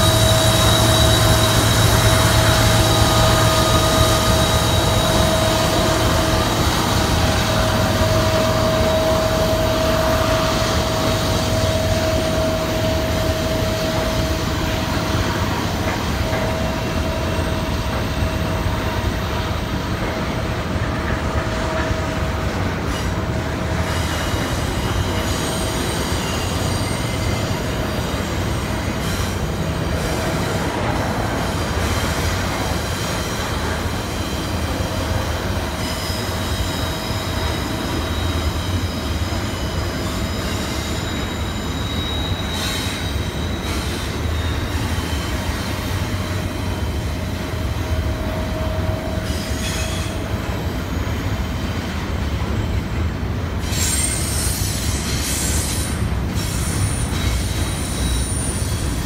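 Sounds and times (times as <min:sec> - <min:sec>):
rumble of train wheels on rail: 0:00.0 - 0:59.0
wheel flange squeal: 0:00.0 - 0:59.0.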